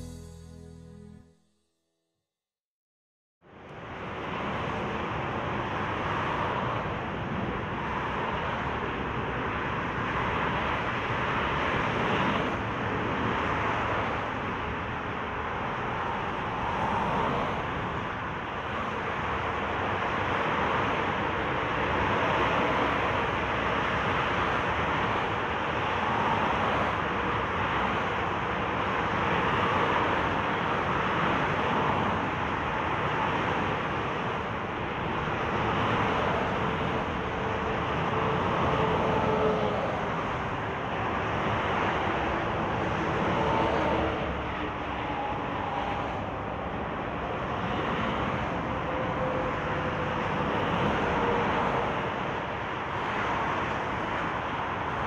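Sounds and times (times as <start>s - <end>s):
dense motorway traffic: 3.4s - 55.0s.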